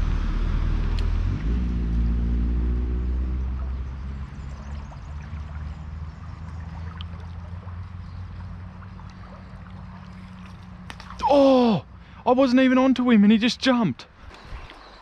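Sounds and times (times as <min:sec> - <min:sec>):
low vehicle hum: 0:00.0 - 0:13.2.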